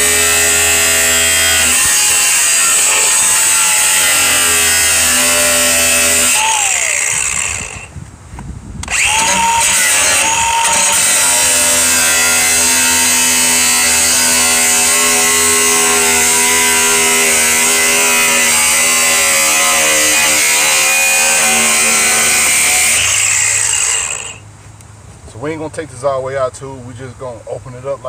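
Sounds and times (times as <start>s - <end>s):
angle grinder cutting steel: 0.0s - 7.9s, 8.8s - 24.4s.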